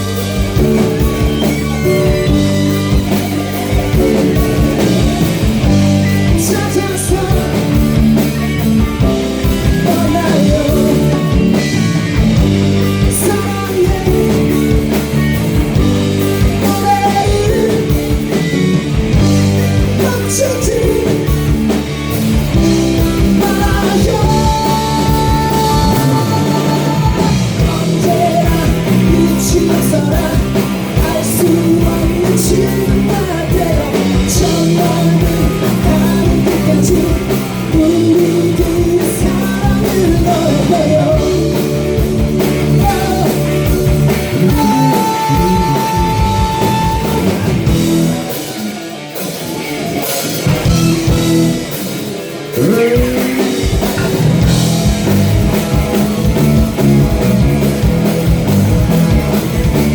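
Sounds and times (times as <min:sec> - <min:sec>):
person singing lead vocal: 0:00.0 - 0:18.9, 0:19.6 - 0:49.0, 0:50.0 - 0:54.6
live rock band playing: 0:00.0 - 0:59.9.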